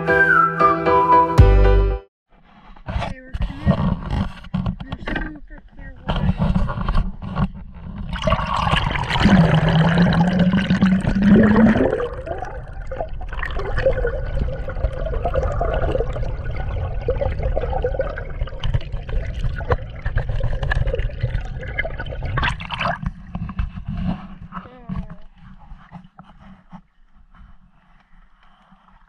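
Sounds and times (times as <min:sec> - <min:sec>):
muffled underwater rumble: 0:03.1 - 0:26.7
water sloshing and gurgling: 0:03.5 - 0:29.0.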